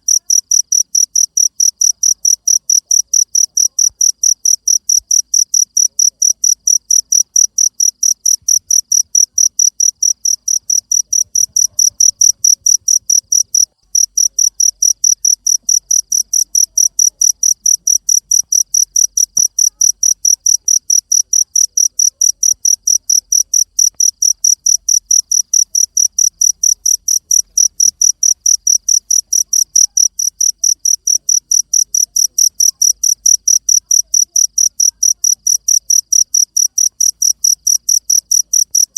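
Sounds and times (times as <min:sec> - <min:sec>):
cricket chirping: 0:00.1 - 0:38.9.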